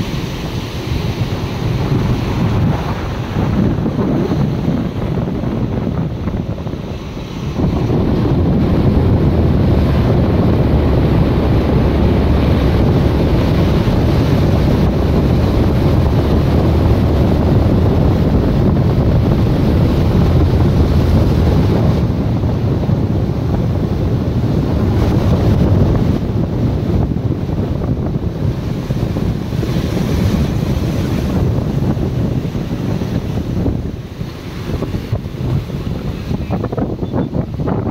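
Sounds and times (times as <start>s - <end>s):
sea surf breaking over rocks: 0.0s - 37.9s
wind rumbling on microphone: 0.0s - 37.9s.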